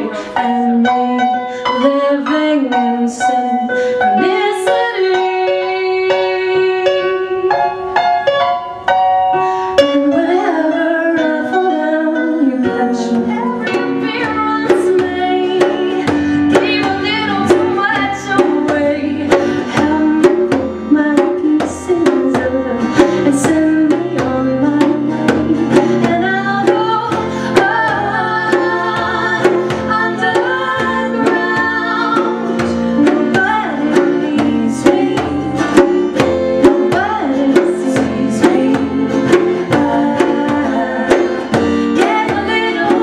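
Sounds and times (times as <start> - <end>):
woman singing: 0.0 - 8.2, 9.7 - 43.0
hand drum: 0.0 - 43.0
keyboard notes: 0.0 - 43.0.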